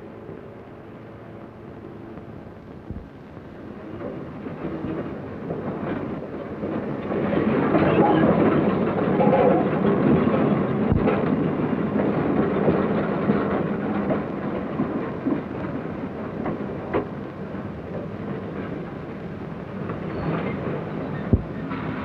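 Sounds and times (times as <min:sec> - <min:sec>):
train rumbling with rail clatter: 0:00.0 - 0:22.0.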